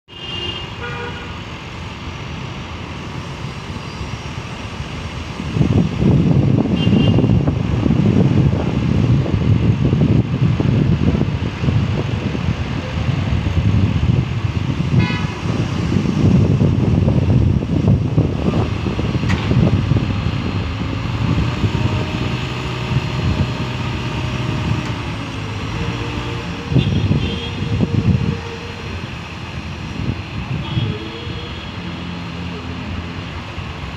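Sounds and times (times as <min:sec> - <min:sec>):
heavy diesel engine rumbling: 0:00.6 - 0:33.9.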